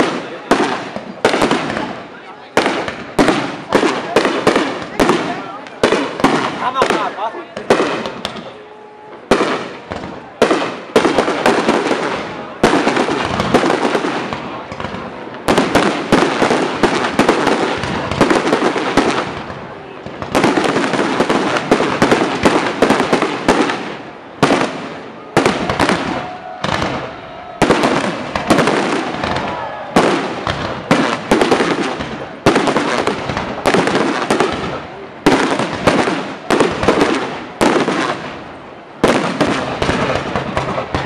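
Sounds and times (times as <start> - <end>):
fireworks bursting with crackle: 0.0 - 41.0.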